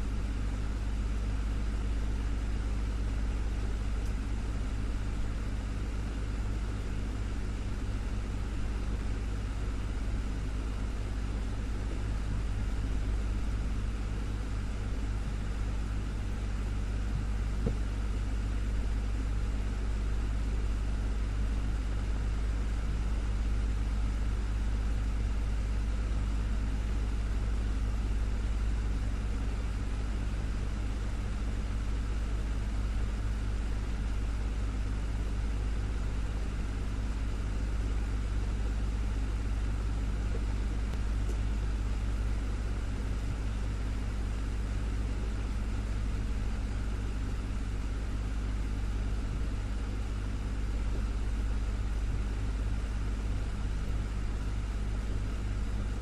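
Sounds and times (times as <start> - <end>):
desktop fan running: 0.0 - 56.0.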